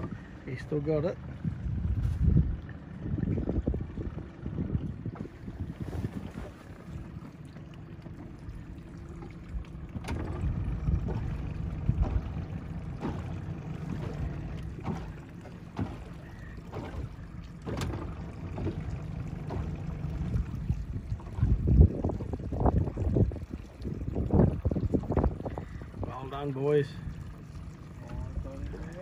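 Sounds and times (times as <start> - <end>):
wind rumble on microphone: 0.0 - 7.4, 8.4 - 29.0
water sloshing against boat hull: 0.0 - 29.0.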